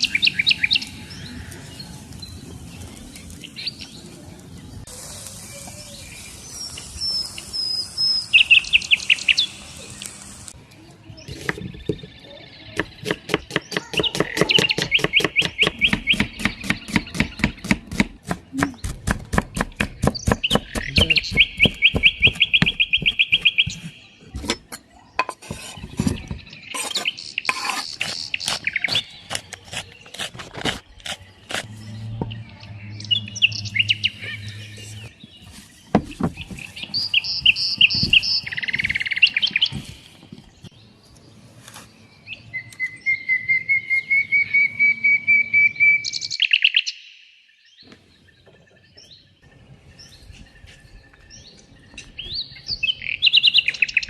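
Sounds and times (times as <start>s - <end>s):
small birds trilling: 0.0s - 54.0s.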